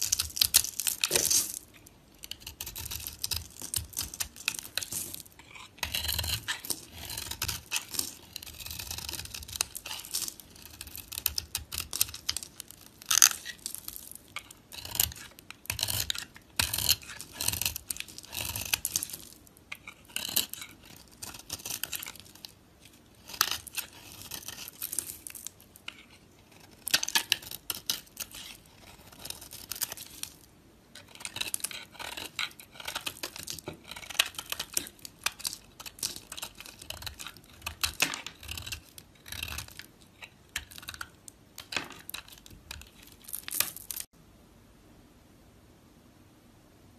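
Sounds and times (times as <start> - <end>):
knife blade scraping soap: 0.0 - 30.4, 31.0 - 44.1.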